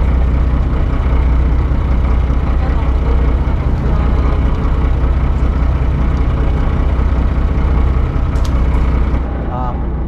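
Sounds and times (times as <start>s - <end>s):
engine low rumble: 0.0s - 10.0s.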